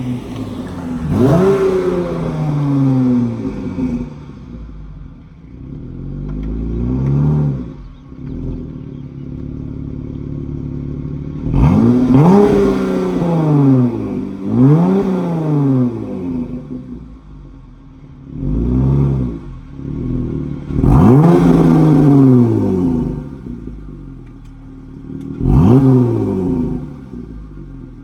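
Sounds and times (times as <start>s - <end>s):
car engine revving and idling: 0.0s - 28.0s.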